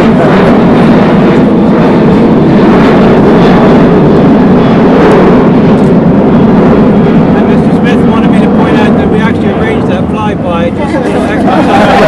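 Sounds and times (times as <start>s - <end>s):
loud steady engine noise: 0.0s - 12.0s.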